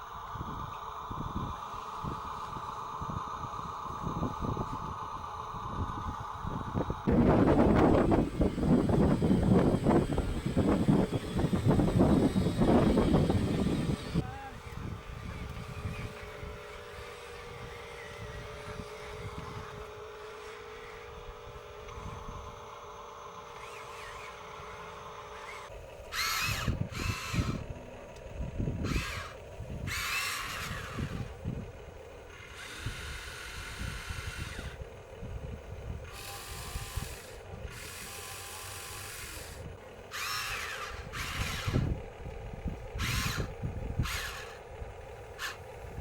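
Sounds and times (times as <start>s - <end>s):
electric motors whining: 0.0s - 46.0s
steady low hum: 0.0s - 46.0s.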